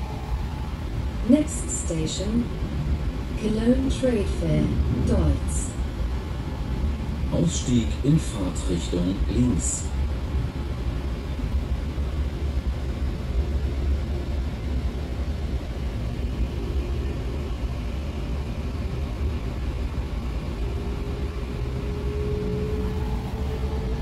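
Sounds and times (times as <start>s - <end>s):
faint steady whine: 0.0s - 24.0s
train wheels rumbling: 0.0s - 24.0s.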